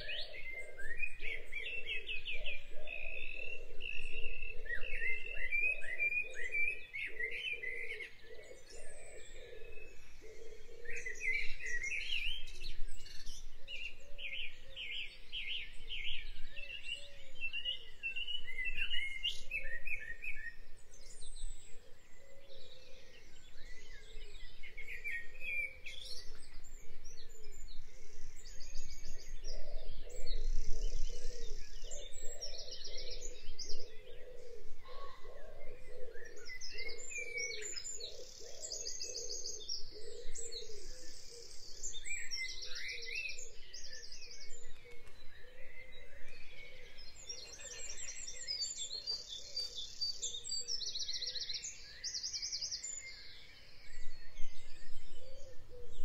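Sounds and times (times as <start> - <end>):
birds chirping: 4.5 - 56.0.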